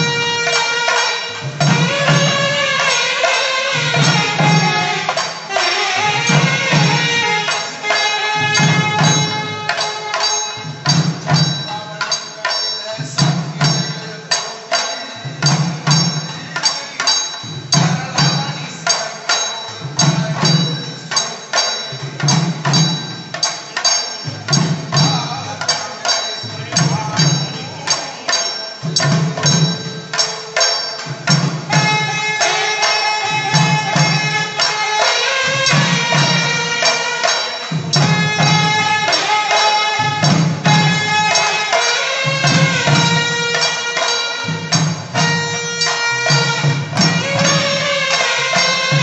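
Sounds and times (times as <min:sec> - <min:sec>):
hand drums beaten fast: 0:00.0 - 0:49.0
high metallic ringing: 0:00.0 - 0:49.0.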